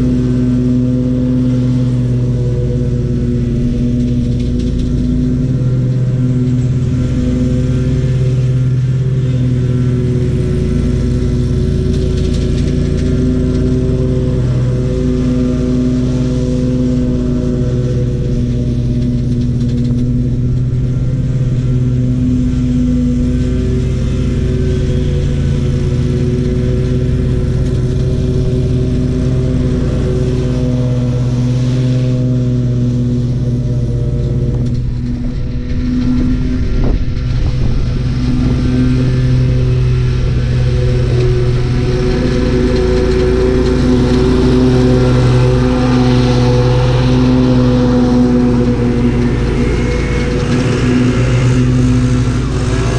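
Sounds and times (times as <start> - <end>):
lawn mower engine running: 0.0 - 52.9.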